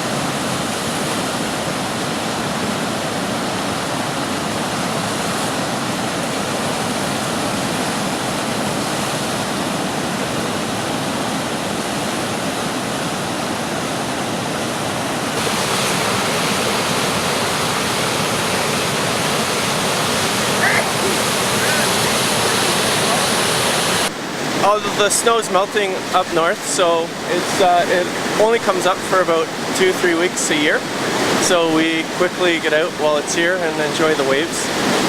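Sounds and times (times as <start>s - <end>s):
whitewater rapids rushing: 0.0s - 35.0s.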